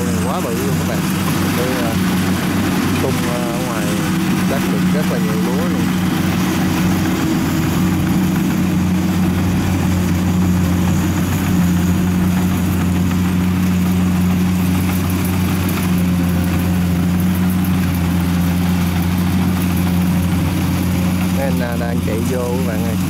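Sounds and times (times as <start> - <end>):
tracked machine engine running: 0.0 - 23.0.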